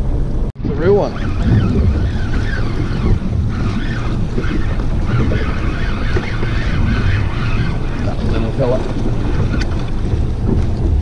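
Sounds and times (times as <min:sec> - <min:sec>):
outboard motor hum: 0:00.0 - 0:11.0
water rushing and splashing: 0:00.0 - 0:11.0
wind buffeting microphone: 0:00.0 - 0:11.0.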